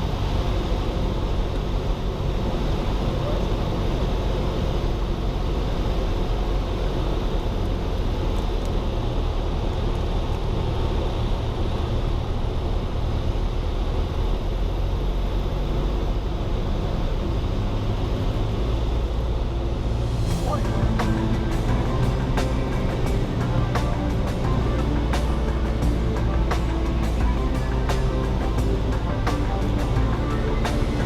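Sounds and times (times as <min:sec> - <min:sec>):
propeller plane engine droning: 0:00.0 - 0:31.0.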